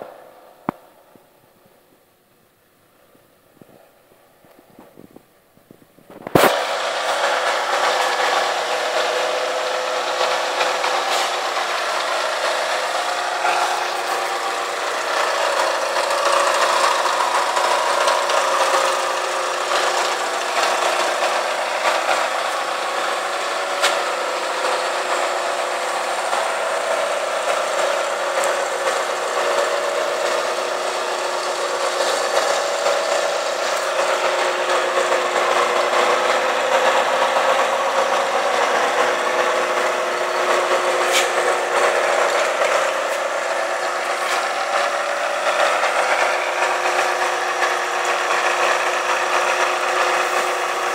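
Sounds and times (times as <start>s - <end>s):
milling machine cutting metal: 6.3s - 50.9s.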